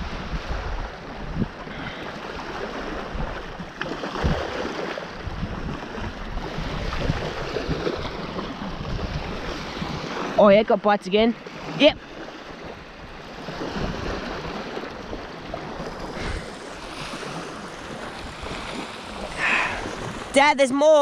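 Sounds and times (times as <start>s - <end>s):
wind buffeting microphone: 0.0s - 20.4s
small waves washing onto sand: 0.0s - 21.0s.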